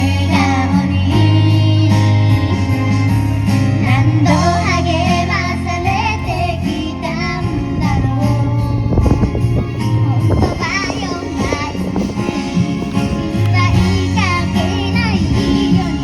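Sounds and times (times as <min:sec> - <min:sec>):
backing track with bass line: 0:00.0 - 0:16.0
girl singing pop song: 0:00.0 - 0:16.0.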